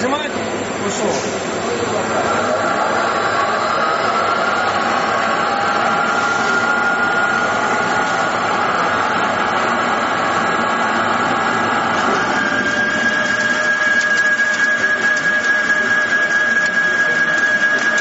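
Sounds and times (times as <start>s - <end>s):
machine running with high whine: 0.0s - 18.0s.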